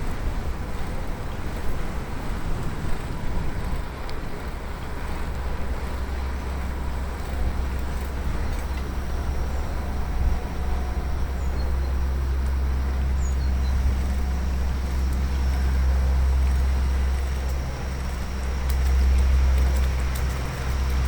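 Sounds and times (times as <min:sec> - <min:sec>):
motor vehicle hum: 0:00.0 - 0:21.0
wind on microphone: 0:00.0 - 0:21.0.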